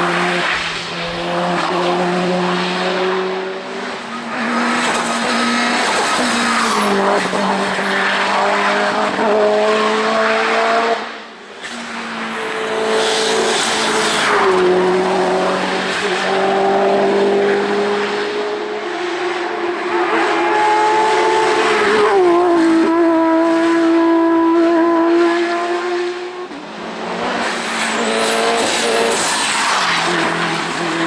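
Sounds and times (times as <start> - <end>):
racing car engines passing: 0.0 - 31.0.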